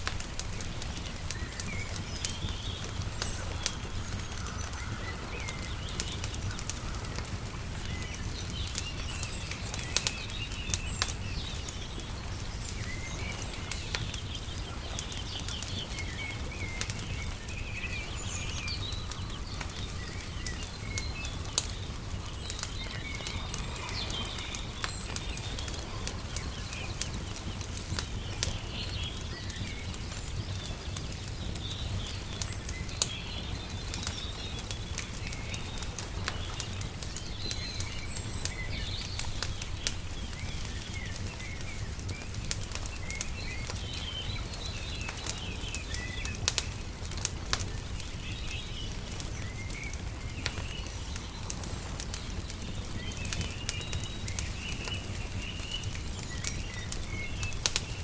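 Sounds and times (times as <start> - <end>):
birds chirping: 0.0 - 58.0
wood fire crackling: 0.0 - 58.0.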